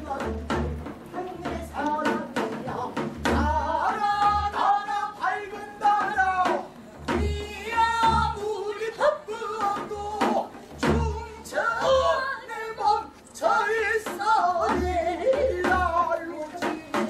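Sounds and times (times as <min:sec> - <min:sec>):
low drum beats: 0:00.0 - 0:17.0
man and woman singing: 0:00.0 - 0:17.0.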